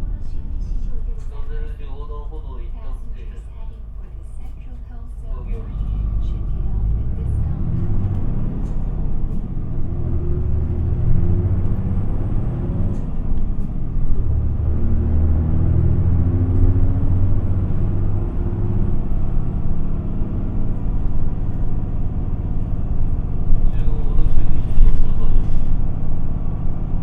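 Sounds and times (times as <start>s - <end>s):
bus diesel engine rumbling: 0.0s - 27.0s.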